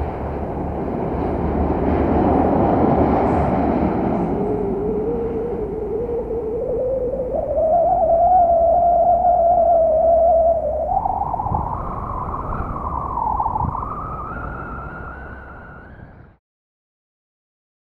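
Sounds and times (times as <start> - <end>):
car engine and drivetrain whine: 0.0 - 16.3
low road rumble: 0.0 - 16.4.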